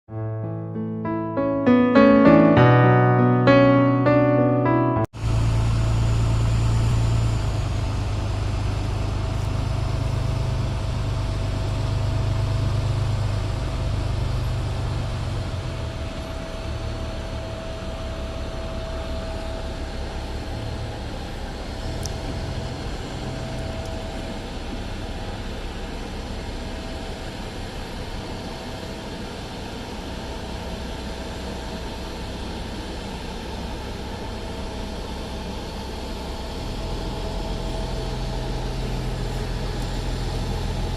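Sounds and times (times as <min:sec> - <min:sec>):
jet engines rumbling: 0:05.2 - 0:40.9.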